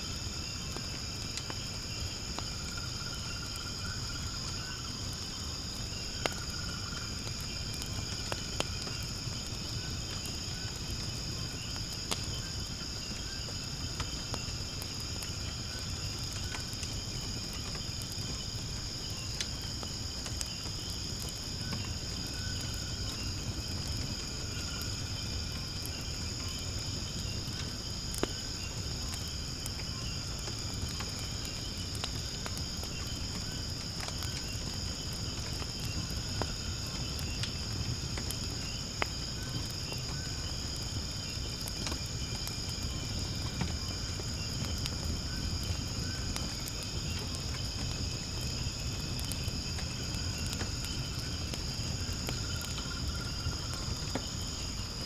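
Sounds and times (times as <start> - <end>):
fire rumbling: 0.0 - 55.0
insects chirring: 0.0 - 55.0
firewood crackling pops: 0.3 - 2.9, 4.4 - 55.0.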